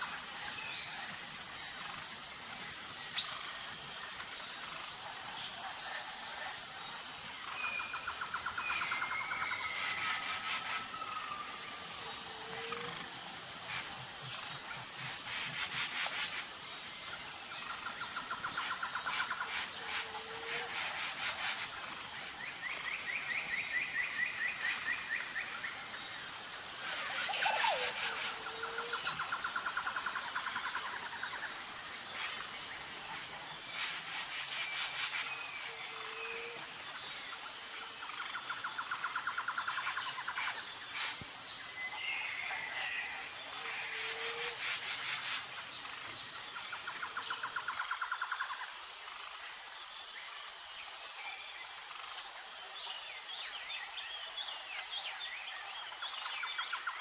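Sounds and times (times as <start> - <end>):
high pulsing insect chorus: 0.0 - 57.0.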